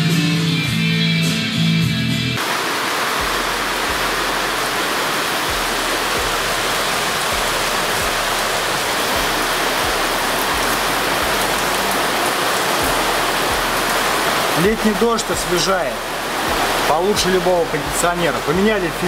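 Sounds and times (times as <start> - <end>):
heavy rain: 2.4 - 19.0.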